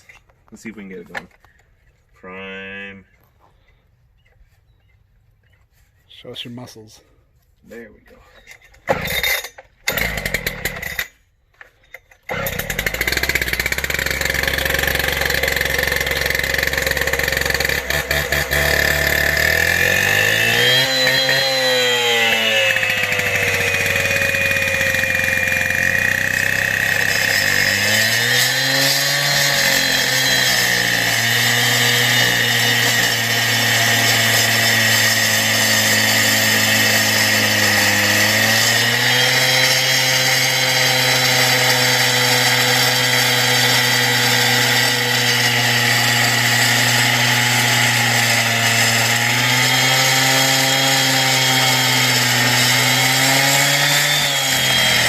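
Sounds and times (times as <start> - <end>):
power cutter engine revving: 8.9 - 11.1, 12.2 - 55.0.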